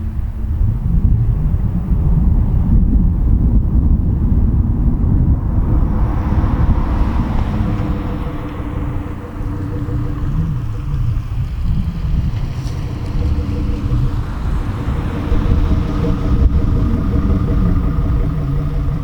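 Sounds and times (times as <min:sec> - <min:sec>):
car exhaust deep rumble: 0:00.0 - 0:19.0
rushing noise: 0:03.3 - 0:19.0.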